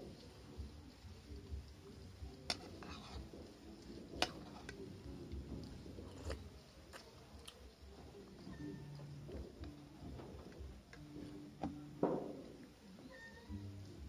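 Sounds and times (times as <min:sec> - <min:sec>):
faint chewing: 0:00.1 - 0:11.9.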